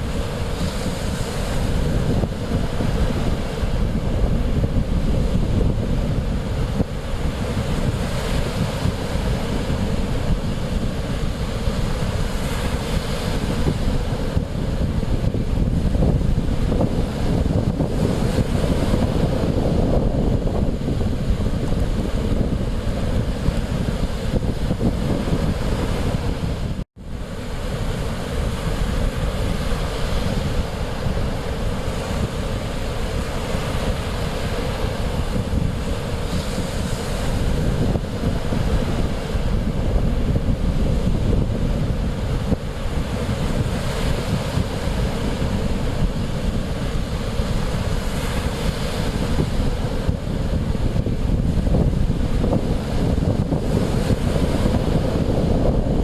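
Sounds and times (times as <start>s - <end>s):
surf washing on shore: 0.0s - 56.0s
wind rumble on microphone: 0.0s - 56.0s.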